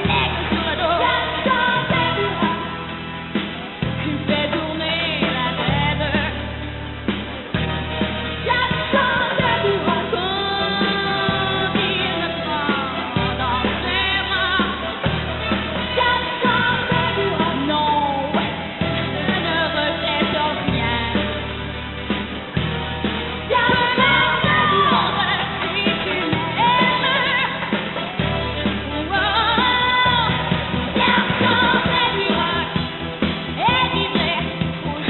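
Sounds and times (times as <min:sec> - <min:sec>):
woman singing pop song: 0:00.0 - 0:06.9, 0:08.0 - 0:21.9, 0:23.4 - 0:35.0
band accompaniment: 0:00.0 - 0:35.0.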